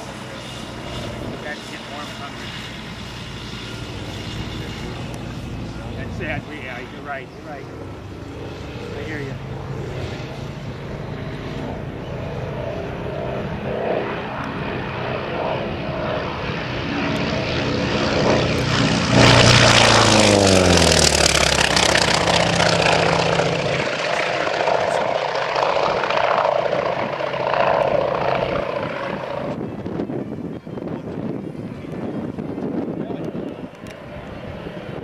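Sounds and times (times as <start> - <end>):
propeller plane engine passing: 0.0 - 35.0.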